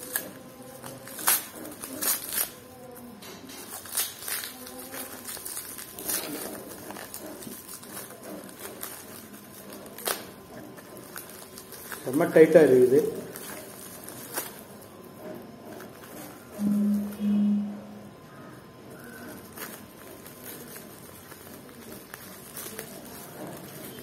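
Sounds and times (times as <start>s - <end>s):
plastic wrap rustling and crinkling: 0.0s - 17.4s, 18.2s - 24.0s.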